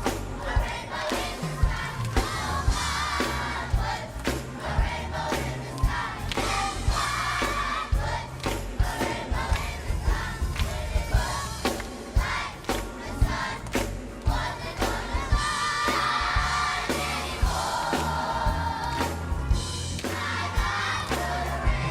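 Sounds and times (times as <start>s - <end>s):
band with steady drum beat: 0.0s - 21.9s
choir singing gospel song: 0.0s - 21.9s.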